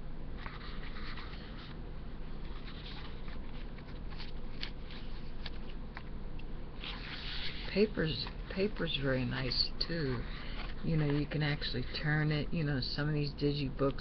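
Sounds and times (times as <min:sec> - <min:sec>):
paper pages rustling: 0:00.4 - 0:06.1, 0:06.8 - 0:12.3.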